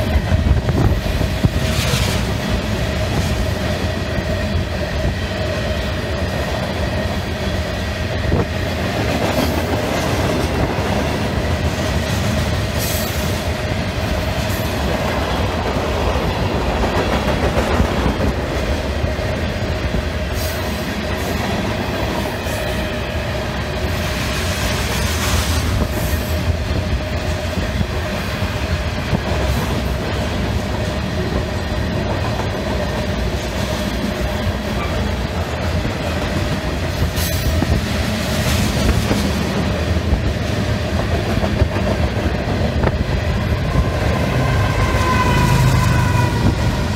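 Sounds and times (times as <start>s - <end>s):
wind buffeting microphone: 0.0s - 20.4s, 21.0s - 46.9s
train wheels clacking on rails: 0.0s - 46.9s.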